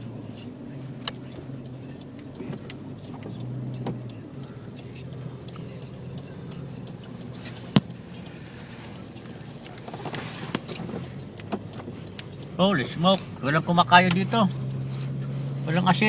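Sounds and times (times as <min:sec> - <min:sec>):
car engine running: 0:00.0 - 0:16.0
small clicks and ticks: 0:00.3 - 0:16.0.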